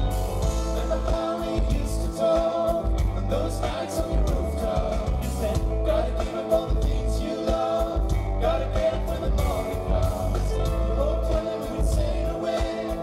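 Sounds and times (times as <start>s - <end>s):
live rock band playing: 0.0s - 13.0s
man singing: 0.4s - 13.0s.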